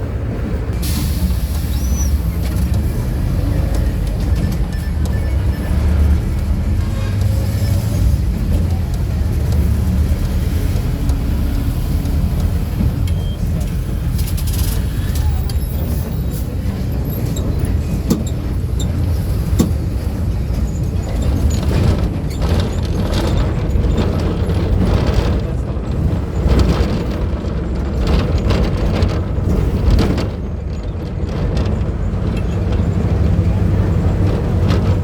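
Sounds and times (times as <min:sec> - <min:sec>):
bus engine rumbling: 0:00.0 - 0:35.0.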